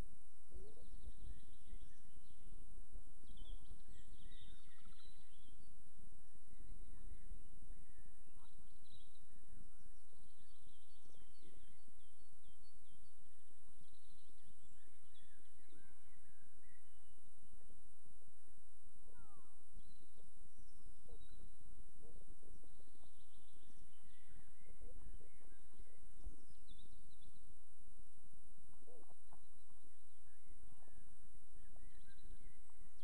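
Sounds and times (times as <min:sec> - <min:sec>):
small birds chirping: 0:00.5 - 0:17.7, 0:19.0 - 0:27.8, 0:28.6 - 0:33.0.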